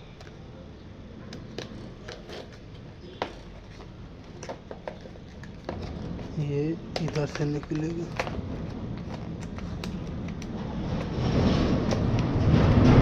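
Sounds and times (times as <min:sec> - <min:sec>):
packaging clicks and rustles: 0:01.3 - 0:13.0.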